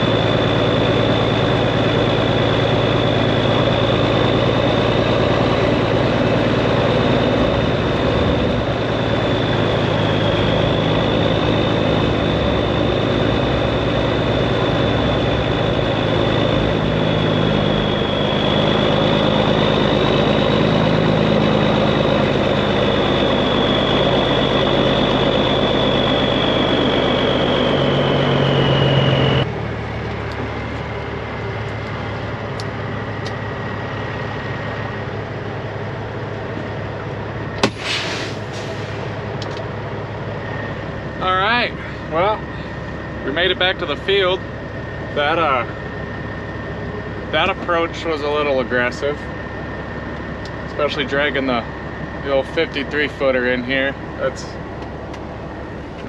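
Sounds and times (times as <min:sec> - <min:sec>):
diesel truck engine drone: 0:00.0 - 0:56.0
high engine whine: 0:00.0 - 0:56.0.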